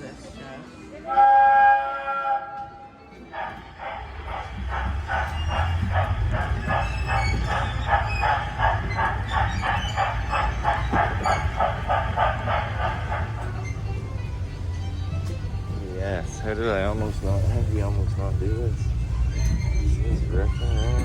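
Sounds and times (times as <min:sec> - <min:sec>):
miniature train chuffing: 0:01.1 - 0:21.0.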